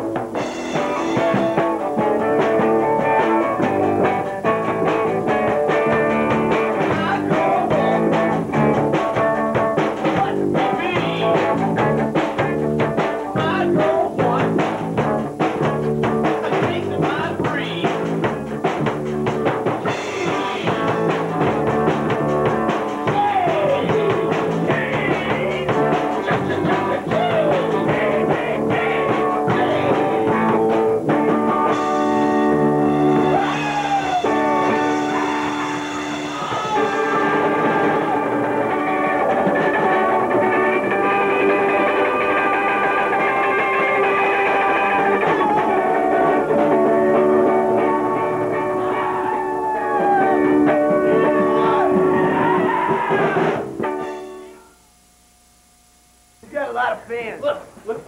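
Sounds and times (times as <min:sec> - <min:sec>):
drum hits: 0:00.0 - 0:48.8, 0:49.6 - 0:54.5
rock band playing: 0:00.0 - 0:54.8
electric guitar: 0:00.0 - 0:55.0.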